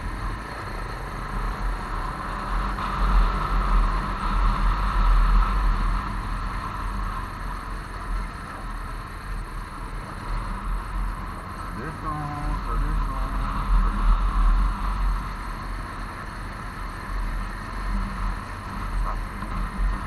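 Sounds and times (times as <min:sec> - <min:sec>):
motorcycle engine running: 0:00.0 - 0:20.0
wind rumbling on microphone: 0:00.0 - 0:20.0.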